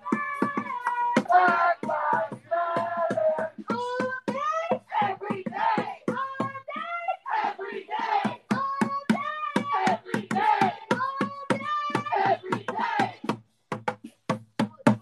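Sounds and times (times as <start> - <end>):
rhythmic claps: 0.0 - 15.0.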